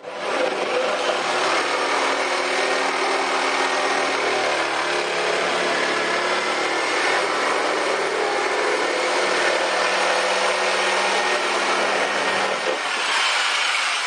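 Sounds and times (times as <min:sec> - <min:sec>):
power tool cutting: 0:00.0 - 0:14.0.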